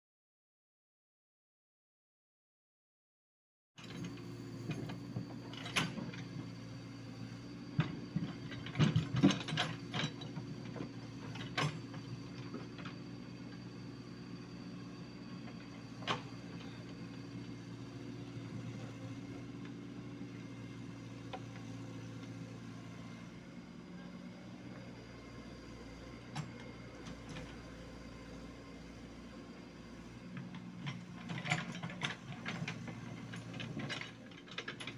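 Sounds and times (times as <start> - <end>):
excavator diesel engine running: 3.8 - 34.9.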